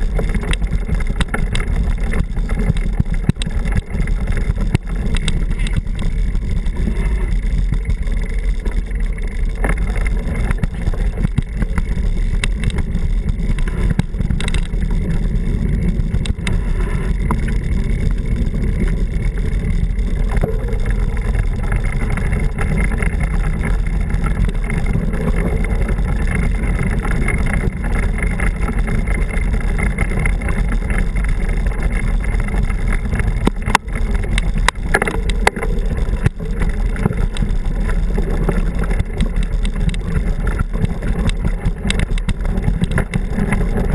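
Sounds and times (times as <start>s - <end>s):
bike rattling over gravel: 0.0s - 43.9s
wind rumble on microphone: 0.0s - 43.9s.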